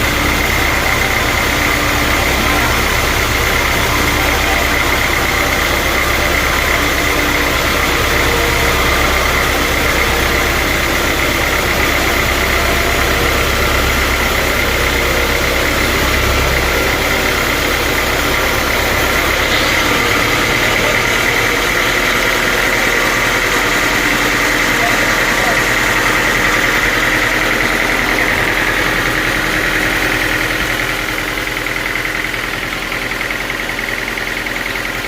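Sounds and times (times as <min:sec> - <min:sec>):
high steady whine: 0:00.0 - 0:33.8
sawmill engine drone: 0:00.0 - 0:35.0.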